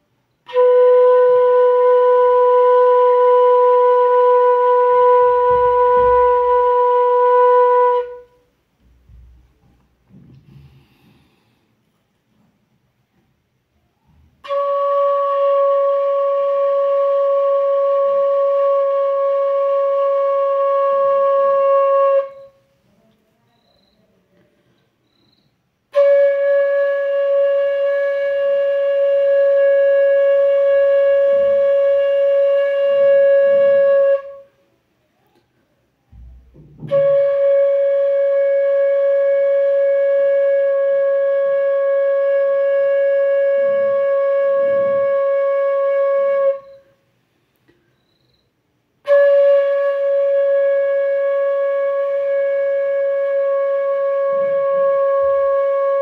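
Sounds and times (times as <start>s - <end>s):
bamboo flute holding a note: 0.0s - 11.4s, 13.9s - 22.7s, 25.0s - 34.6s, 36.1s - 47.0s, 49.0s - 56.0s.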